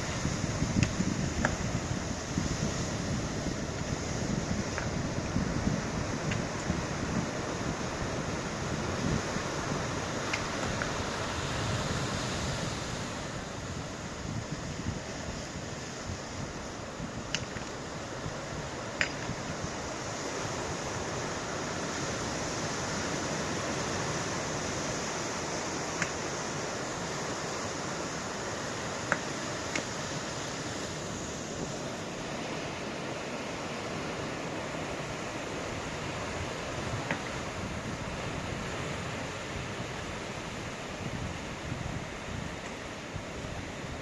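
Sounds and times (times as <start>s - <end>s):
ocean surf rushing: 0.0s - 44.0s
wind: 0.0s - 44.0s.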